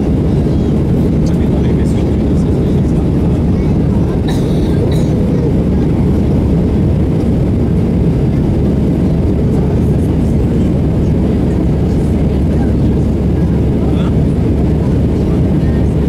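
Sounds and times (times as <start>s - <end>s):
jet engines droning: 0.0s - 16.0s.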